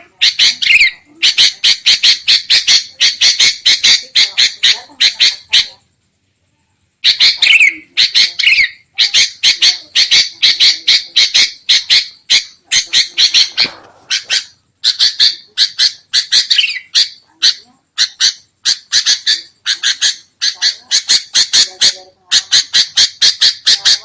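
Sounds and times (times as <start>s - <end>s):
bulbuls chattering: 0.0s - 6.0s, 7.0s - 24.0s.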